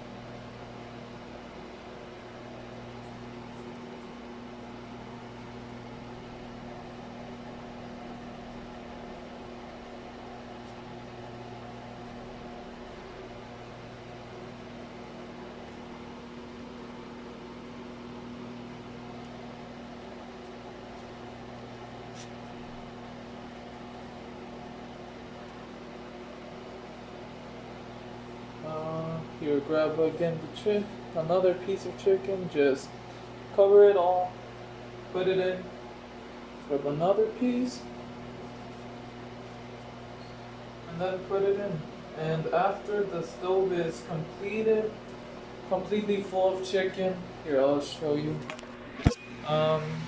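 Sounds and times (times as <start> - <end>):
mechanical hum: 0.0 - 50.0.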